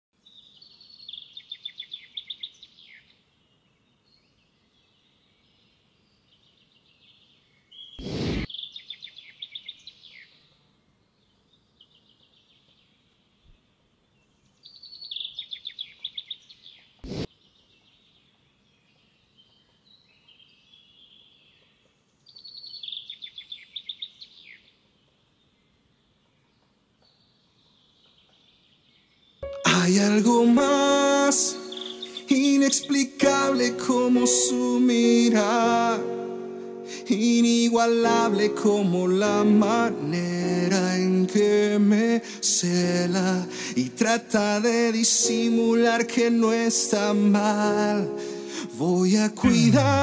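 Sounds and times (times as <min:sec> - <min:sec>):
songbird singing: 0:00.2 - 0:50.0.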